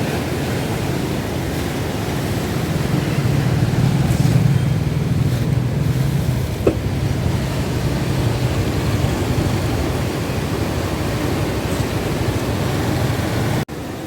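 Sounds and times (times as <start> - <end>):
wind buffeting microphone: 0.0 - 13.6
rough sea rumbling: 0.0 - 14.0.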